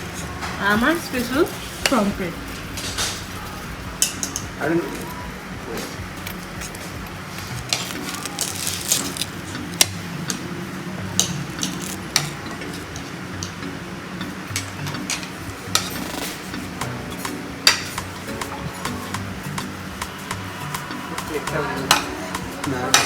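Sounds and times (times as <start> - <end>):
cutlery clinking against plates: 0.0 - 23.0.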